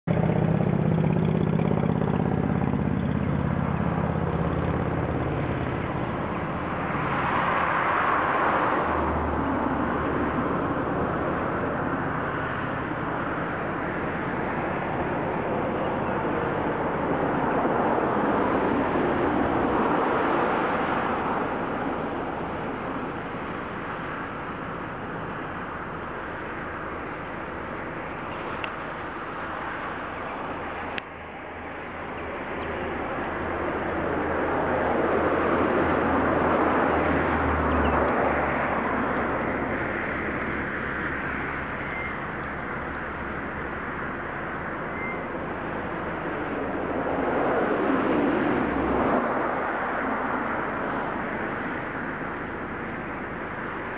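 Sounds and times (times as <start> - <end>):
car engine hum: 0.0 - 53.9
vehicles passing: 0.0 - 53.9.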